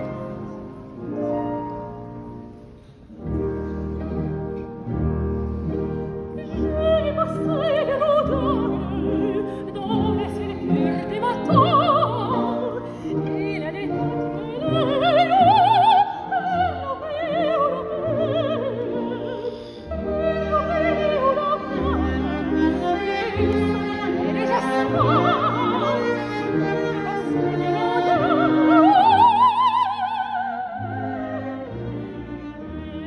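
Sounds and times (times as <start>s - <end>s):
symphony orchestra: 0.0s - 33.0s
operatic soprano singing: 6.4s - 33.0s.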